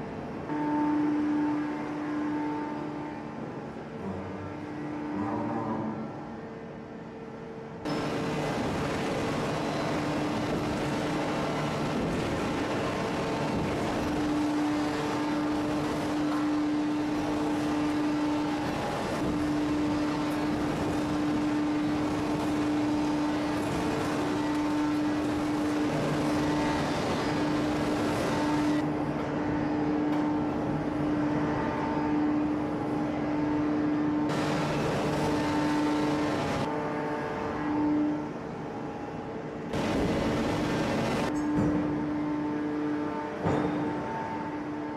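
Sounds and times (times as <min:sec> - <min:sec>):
hydraulic forging press humming: 0:07.9 - 0:44.9.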